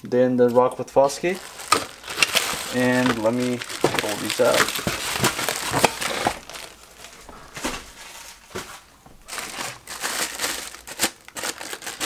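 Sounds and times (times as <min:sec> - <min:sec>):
plastic packaging crinkling: 0:01.2 - 0:12.0.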